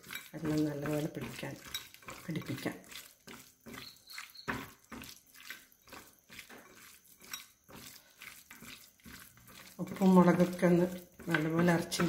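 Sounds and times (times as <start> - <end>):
hand squelching meat in marinade: 0.0 - 12.0.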